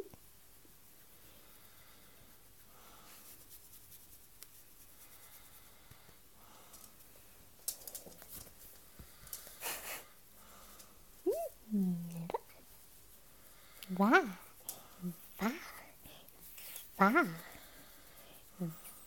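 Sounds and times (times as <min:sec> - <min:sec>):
faint rustling and rubbing: 0:00.0 - 0:19.0.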